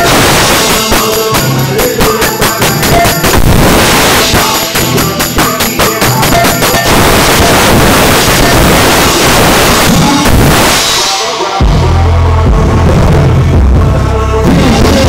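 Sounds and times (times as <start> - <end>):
backing track with bass and synth: 0.0 - 15.0
drum kit playing: 0.0 - 15.0.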